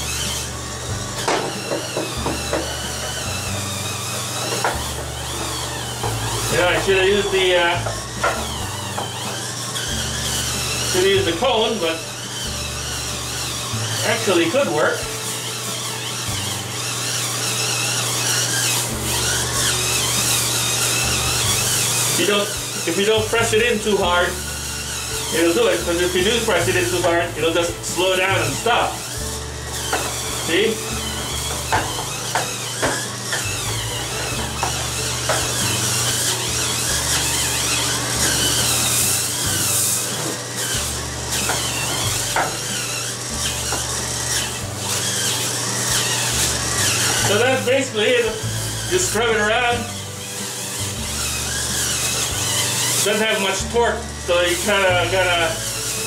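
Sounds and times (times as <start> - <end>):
spin scrubber motor whirring: 0.0 - 56.0.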